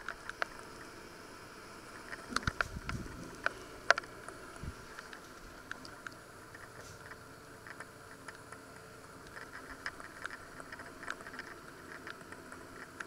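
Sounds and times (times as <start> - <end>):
pot crackling and ticking: 0.0 - 1.0, 1.7 - 13.0
steady low hiss: 0.0 - 13.0.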